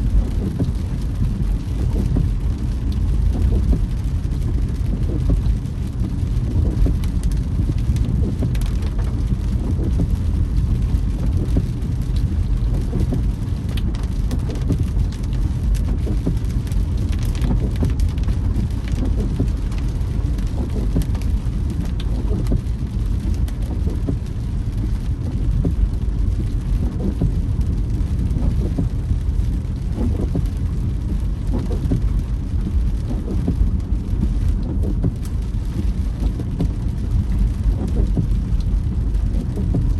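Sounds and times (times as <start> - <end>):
rain falling on a car: 0.0 - 39.9
road and engine rumble: 0.0 - 39.9.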